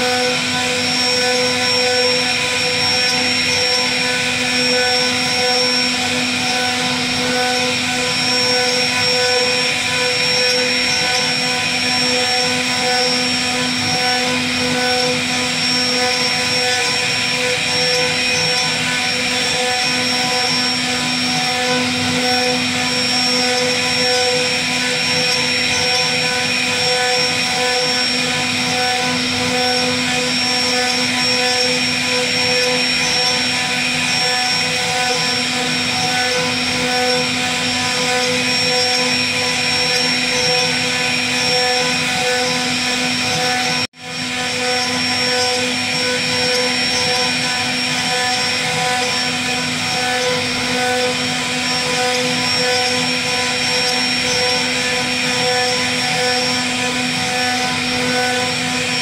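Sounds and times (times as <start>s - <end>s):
cnc router carving wood: 0.0s - 59.0s.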